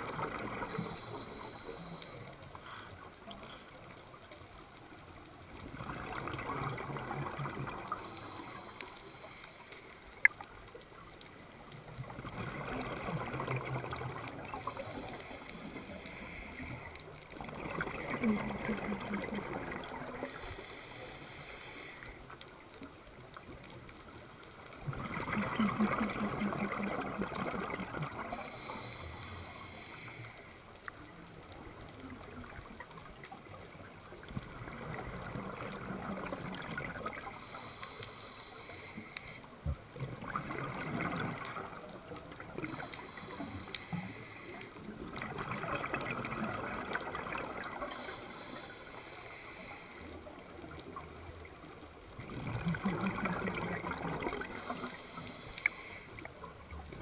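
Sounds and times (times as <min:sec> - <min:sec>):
underwater bubbles gurgling: 0:00.0 - 0:57.0.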